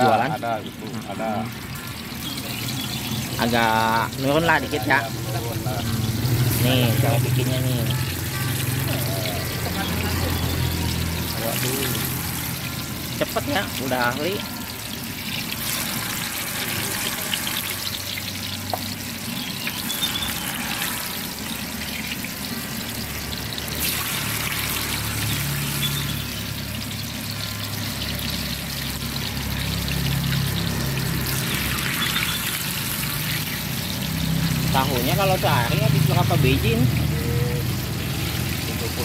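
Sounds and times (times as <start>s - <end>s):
hot oil sizzling: 0.0s - 39.0s.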